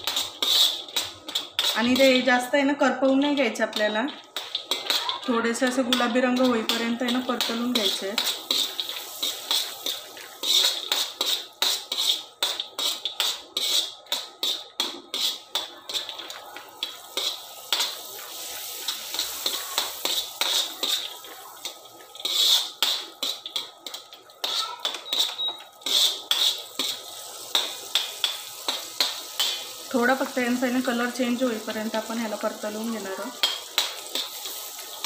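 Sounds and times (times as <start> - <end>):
spoon scraping a metal wok: 0.0 - 2.4, 3.2 - 35.0
nuts sizzling in oil: 0.0 - 35.0.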